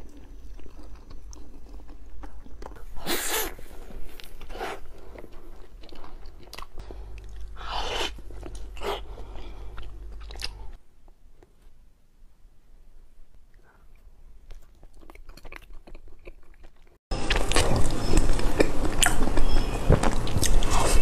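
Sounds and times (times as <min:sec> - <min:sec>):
wet chewing: 0:00.0 - 0:11.5, 0:13.5 - 0:21.0.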